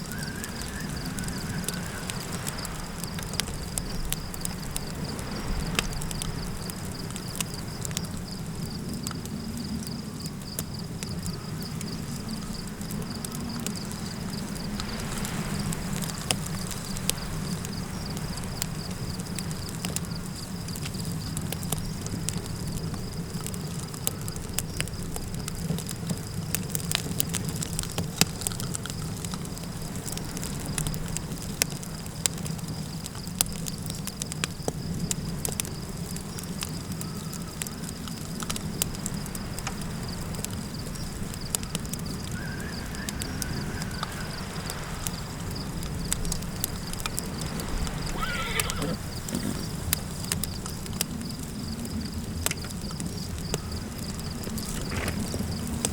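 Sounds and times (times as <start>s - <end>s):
low wind rumble: 0.0s - 33.4s, 34.8s - 55.9s
campfire crackling and popping: 0.0s - 55.9s
insects chirring: 0.0s - 55.9s.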